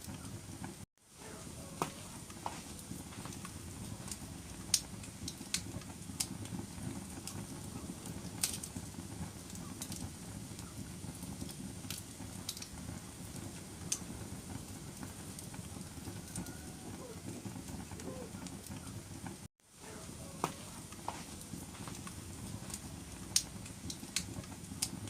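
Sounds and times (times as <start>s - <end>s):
fire crackling and popping: 0.0s - 25.0s
fire rumbling: 0.0s - 25.0s.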